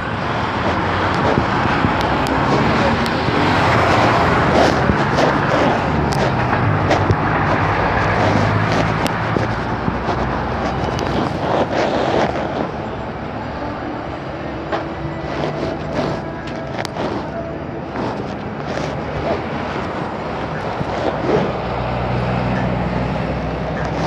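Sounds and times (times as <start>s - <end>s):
car engine humming: 0.0s - 24.0s
traffic: 0.0s - 24.0s.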